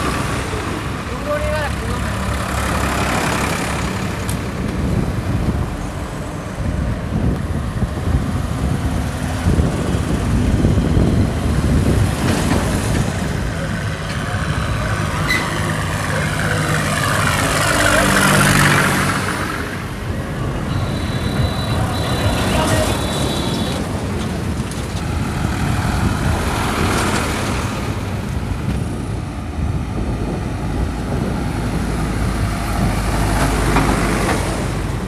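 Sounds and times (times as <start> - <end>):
tractor engines rumbling past: 0.0 - 35.0.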